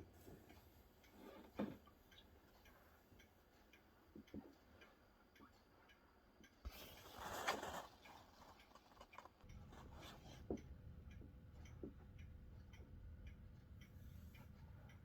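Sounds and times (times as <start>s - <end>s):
faint regular ticking: 0.0s - 15.0s.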